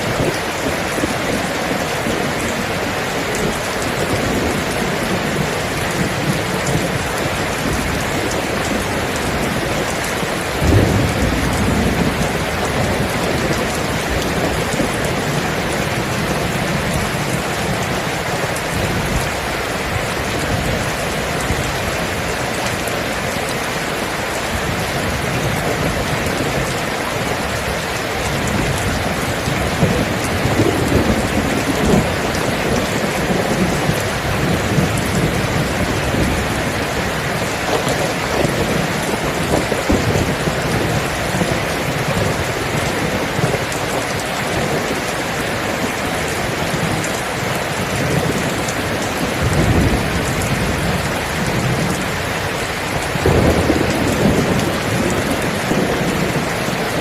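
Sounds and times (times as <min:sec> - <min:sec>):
low rolling thunder: 0:00.0 - 0:22.9, 0:24.0 - 0:45.1, 0:46.6 - 0:57.0
heavy rain falling: 0:00.0 - 0:57.0.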